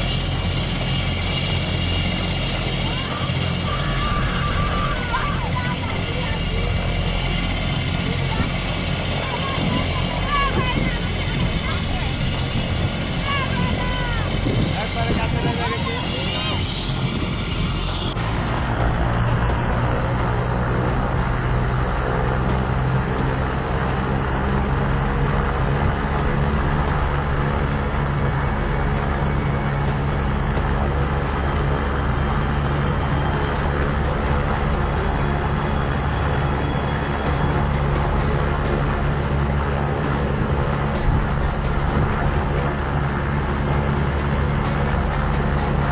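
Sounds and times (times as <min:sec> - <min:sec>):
helicopter low drone: 0:00.0 - 0:45.9.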